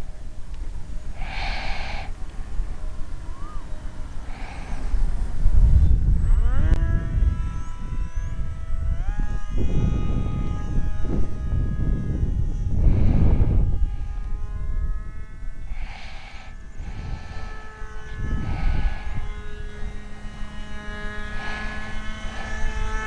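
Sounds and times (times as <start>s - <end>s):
electric motor propeller whining: 0.0s - 23.0s
wind on microphone: 0.0s - 23.0s.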